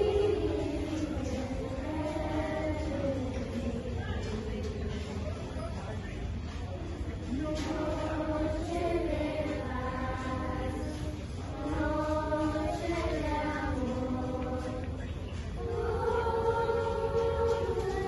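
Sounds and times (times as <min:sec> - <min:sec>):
children's choir singing: 0:00.0 - 0:05.9, 0:07.1 - 0:18.0.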